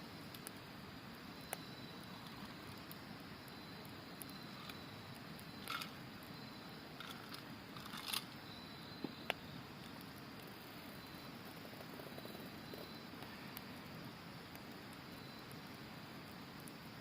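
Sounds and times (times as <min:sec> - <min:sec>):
campfire crackling and popping: 0:00.0 - 0:17.0
insects trilling: 0:00.0 - 0:17.0.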